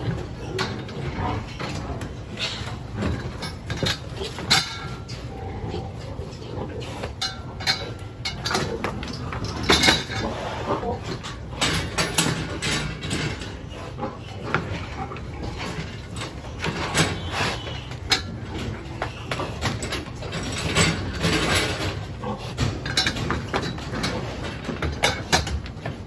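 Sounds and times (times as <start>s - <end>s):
knocks and clatters: 0.0s - 5.2s, 6.0s - 10.4s, 11.0s - 26.0s
pigs in a pen: 0.0s - 26.0s.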